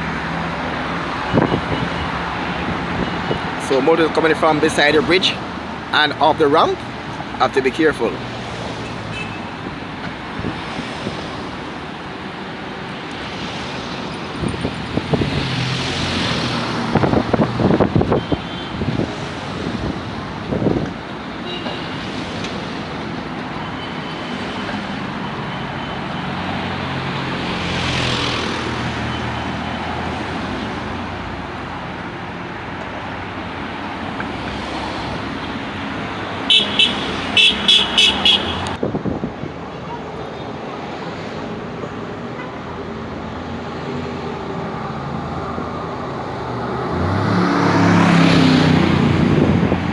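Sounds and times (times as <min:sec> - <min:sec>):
road traffic passing: 0:00.0 - 0:49.9.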